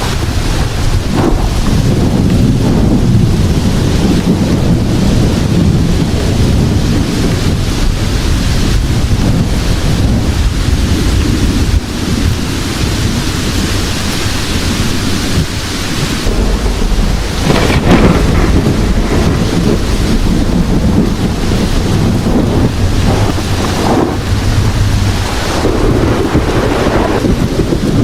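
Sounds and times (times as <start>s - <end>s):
heavy rain falling: 0.0s - 28.0s
loud thunderclap: 0.0s - 28.0s
low rolling thunder: 0.0s - 28.0s.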